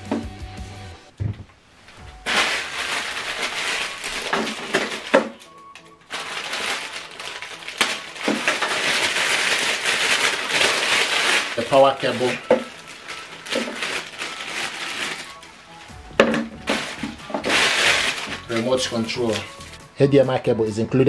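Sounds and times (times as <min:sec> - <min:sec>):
background music: 0:00.0 - 0:01.2, 0:01.9 - 0:21.0
plastic bag crinkling: 0:01.9 - 0:19.8.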